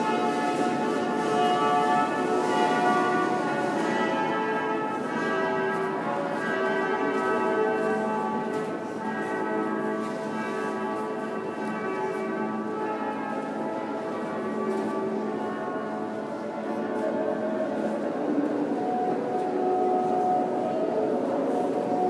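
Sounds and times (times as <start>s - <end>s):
bells ringing in a peal: 0.0s - 22.0s.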